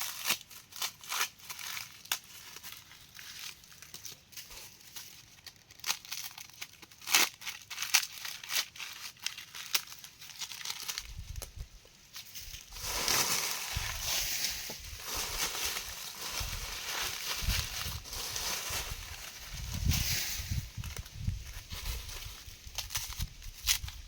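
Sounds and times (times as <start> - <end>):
dry plant material crackling: 0.0 - 24.0.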